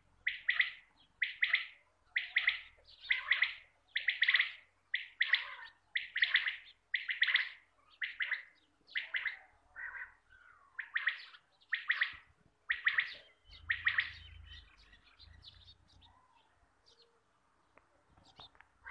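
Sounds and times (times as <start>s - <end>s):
quail calling: 0.2s - 17.0s, 18.3s - 18.9s.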